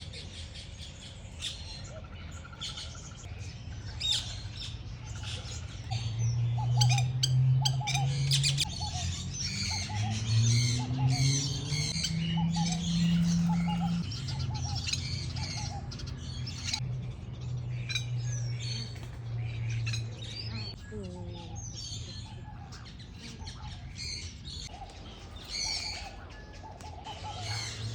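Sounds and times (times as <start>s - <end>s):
birds chirping and calling: 0.0s - 27.9s.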